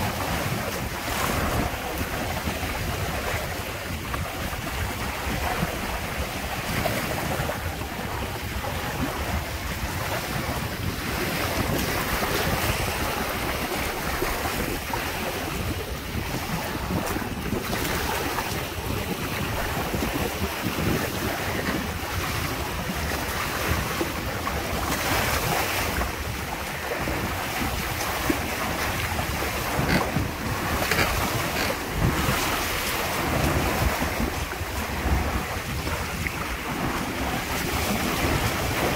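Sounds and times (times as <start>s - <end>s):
water splashing along hulls: 0.0s - 38.9s
wind buffeting microphone: 0.0s - 38.9s.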